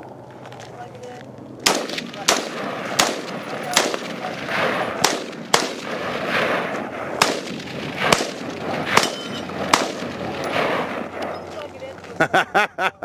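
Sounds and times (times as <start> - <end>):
rifle shots echoing: 1.6 - 12.0.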